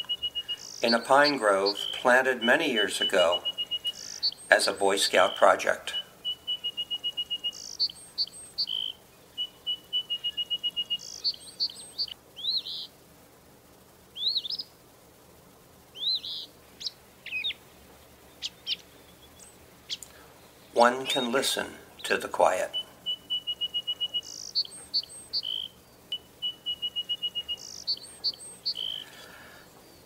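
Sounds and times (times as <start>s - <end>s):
bird trill: 0.0s - 13.0s, 14.1s - 14.8s, 15.9s - 17.6s, 18.2s - 30.0s
short upswept bird chirps: 0.0s - 13.0s, 14.1s - 14.8s, 15.9s - 30.0s
songbirds singing: 0.0s - 13.1s, 13.7s - 30.0s.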